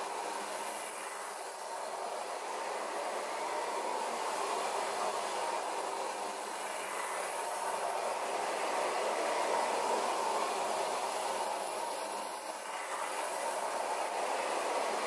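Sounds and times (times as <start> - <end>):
toy train running on metal track: 0.0 - 15.0.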